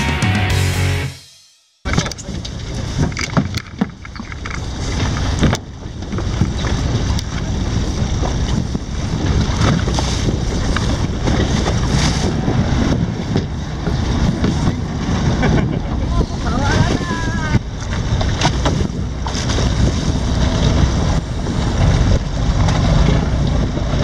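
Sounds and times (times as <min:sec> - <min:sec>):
boat and water noise: 0:01.9 - 0:24.0
wind buffeting microphone: 0:02.2 - 0:24.0.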